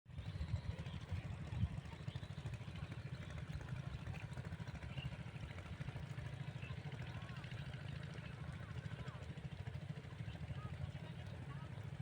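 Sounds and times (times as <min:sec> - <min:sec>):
diesel engine chugging: 0:00.2 - 0:12.0.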